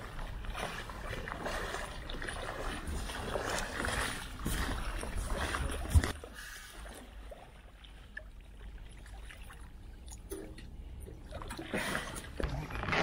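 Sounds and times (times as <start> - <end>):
river water splashing: 0.0 - 12.4.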